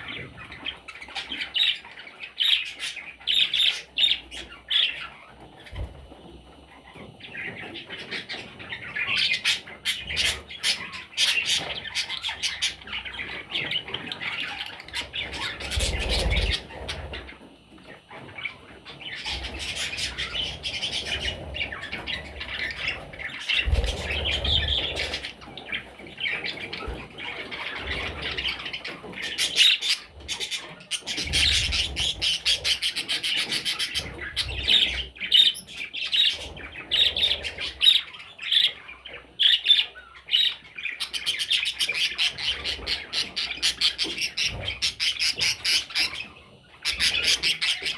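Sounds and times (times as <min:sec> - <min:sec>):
budgerigars chirping and squawking: 0:00.0 - 0:47.9.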